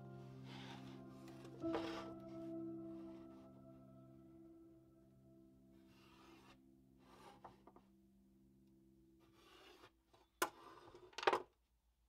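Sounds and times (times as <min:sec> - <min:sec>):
faint music tones: 0:00.0 - 0:10.7.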